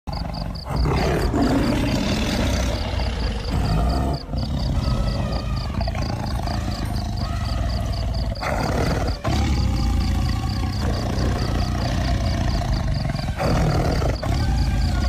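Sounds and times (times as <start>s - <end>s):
lioness growling and roaring: 0.1s - 15.0s.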